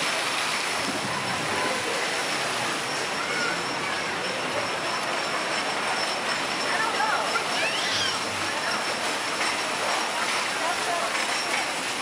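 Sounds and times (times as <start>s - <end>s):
water rushing and churning: 0.0s - 12.0s.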